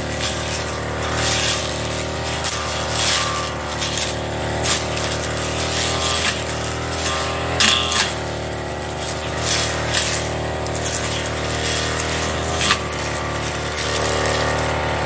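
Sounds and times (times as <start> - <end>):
blade slashing through grass: 0.0 - 15.0
brush cutter engine running: 0.0 - 15.0.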